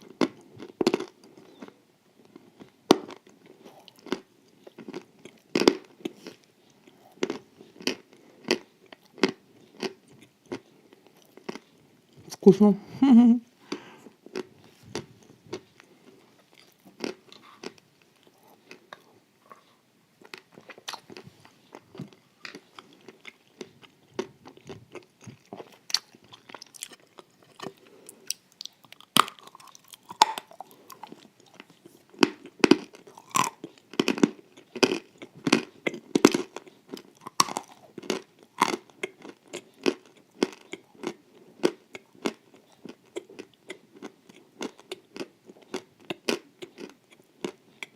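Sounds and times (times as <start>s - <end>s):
person chewing crunchy sweets: 0.0s - 12.2s, 13.6s - 47.9s.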